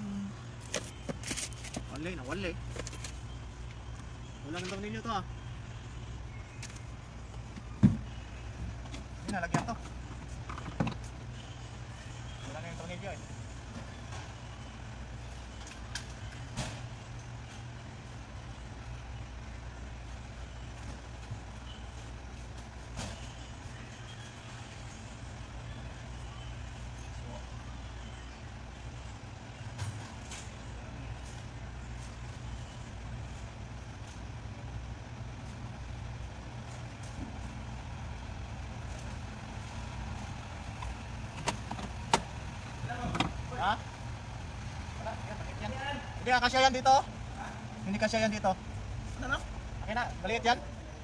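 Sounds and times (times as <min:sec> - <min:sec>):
vehicle engine idling: 0:00.0 - 0:51.0.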